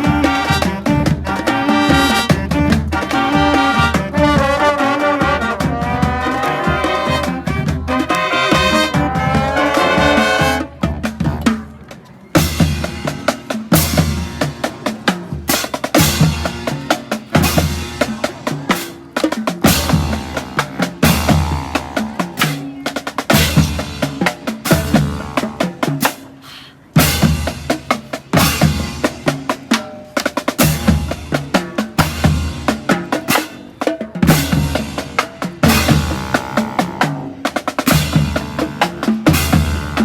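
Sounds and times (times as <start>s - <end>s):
snare and bass drums: 0.0s - 26.4s, 27.0s - 40.0s
marching band playing: 0.0s - 40.0s.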